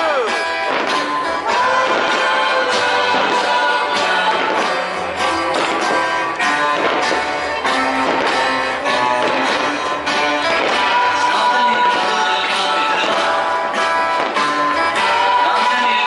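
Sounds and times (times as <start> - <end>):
music with guitar: 0.0 - 16.0.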